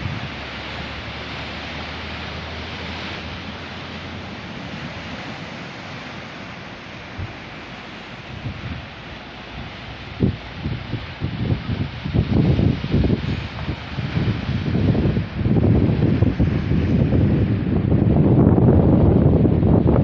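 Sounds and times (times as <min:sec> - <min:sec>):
waves breaking: 0:00.0 - 0:20.0.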